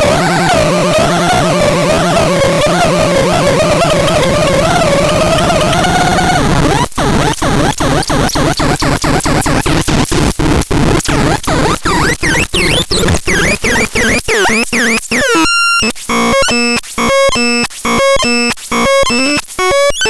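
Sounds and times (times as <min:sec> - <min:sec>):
synthesizer pulsing pattern: 0:00.0 - 0:10.3, 0:11.0 - 0:20.0.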